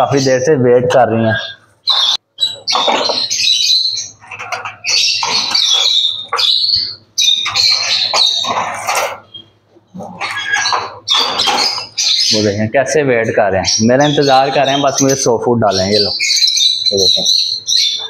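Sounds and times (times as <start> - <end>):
lovebirds squawking: 0.0 - 18.0.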